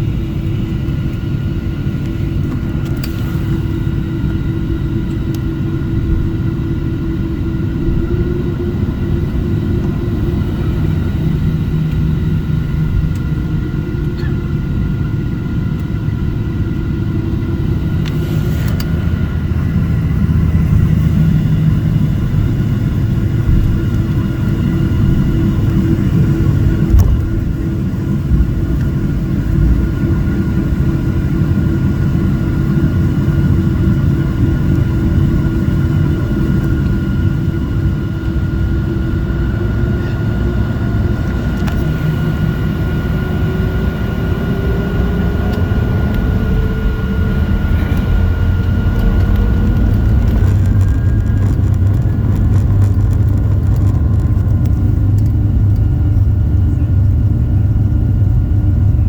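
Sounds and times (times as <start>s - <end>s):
airliner engines rumbling: 0.0s - 59.0s
jet engine whine: 0.0s - 59.0s.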